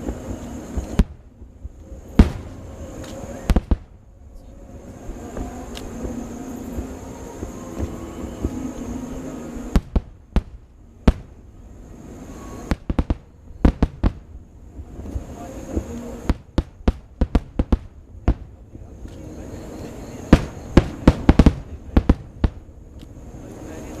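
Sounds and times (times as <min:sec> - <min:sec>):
fireworks exploding: 0:00.0 - 0:24.0.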